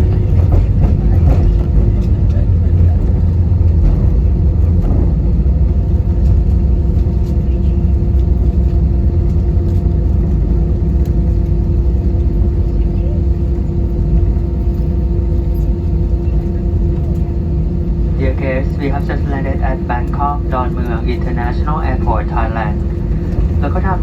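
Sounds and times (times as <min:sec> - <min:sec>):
airplane cabin rumble and hum: 0:00.0 - 0:24.0.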